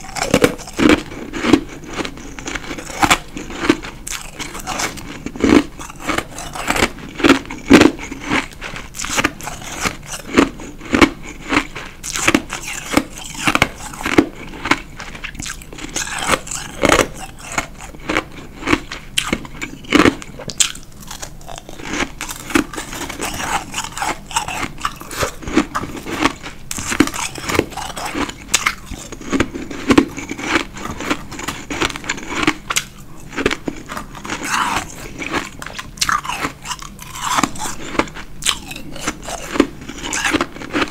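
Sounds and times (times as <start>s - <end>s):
crunching and chewing ice: 0.0s - 40.9s.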